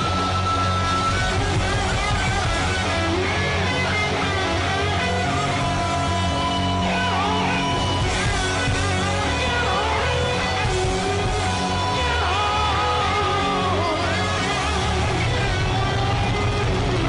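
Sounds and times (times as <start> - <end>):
bending lead guitar line: 0.0 - 17.0
hard rock band playing: 0.0 - 17.0.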